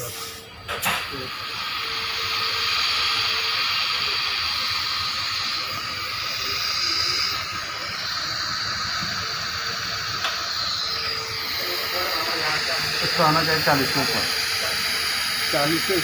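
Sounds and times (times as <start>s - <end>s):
compressed air hissing through tube: 0.0s - 16.0s.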